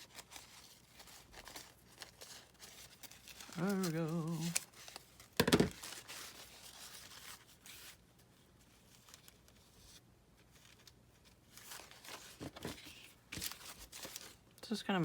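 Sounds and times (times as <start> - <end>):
paper napkin rustling and tearing: 0.0 - 14.4.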